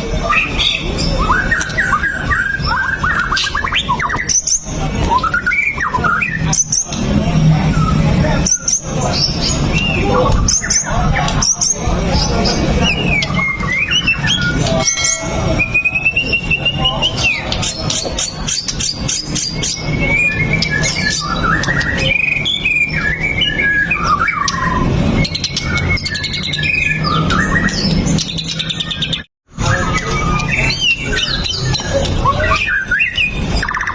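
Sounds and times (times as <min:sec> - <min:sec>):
bird singing whistles: 0:00.2 - 0:07.0, 0:07.6 - 0:33.9.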